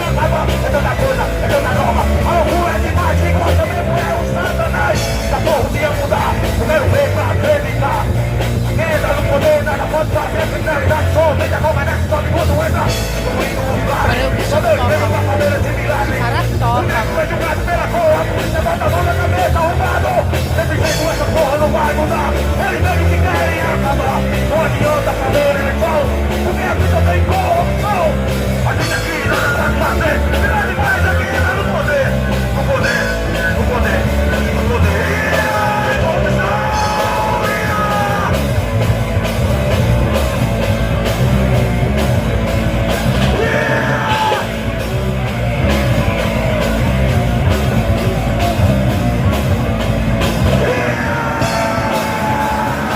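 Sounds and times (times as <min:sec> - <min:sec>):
person shouting singing: 0:00.0 - 0:41.1, 0:42.8 - 0:52.9
rock band playing live: 0:00.0 - 0:52.9.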